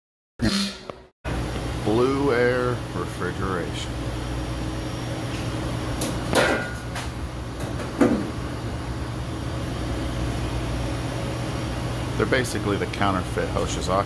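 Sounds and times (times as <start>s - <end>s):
refrigeration machinery humming: 0.4s - 14.0s.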